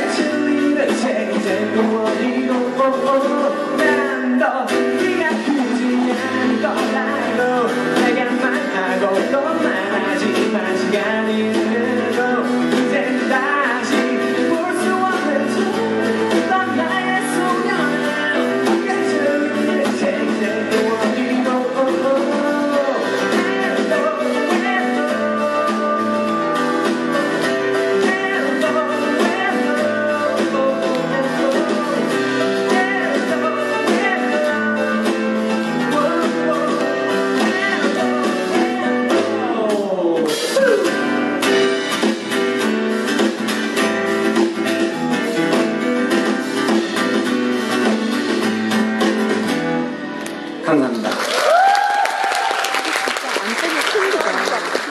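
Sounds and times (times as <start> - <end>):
man singing: 0.0 - 48.5
acoustic guitar: 0.0 - 51.1.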